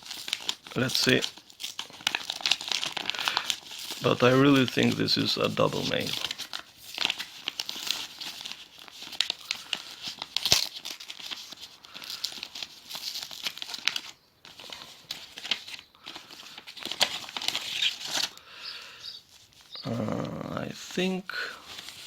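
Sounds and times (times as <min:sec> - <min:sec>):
envelope paper tearing: 0:00.0 - 0:18.4.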